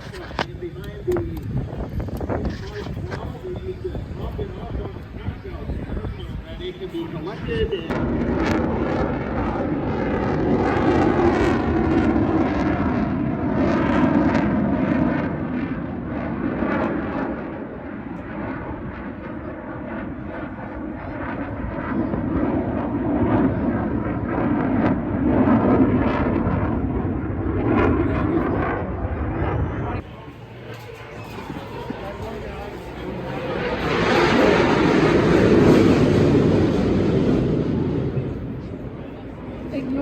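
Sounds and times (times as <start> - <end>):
airplane engine flying past: 0.0 - 40.0.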